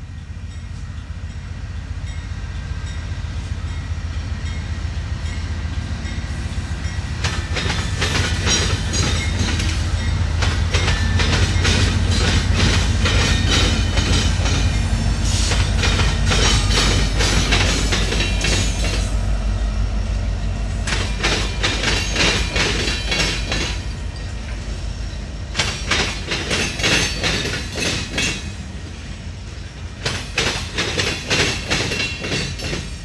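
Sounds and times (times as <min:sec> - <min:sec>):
locomotive engine rumble: 0:00.0 - 0:33.0
train wheels clattering: 0:04.5 - 0:19.3, 0:20.7 - 0:33.0.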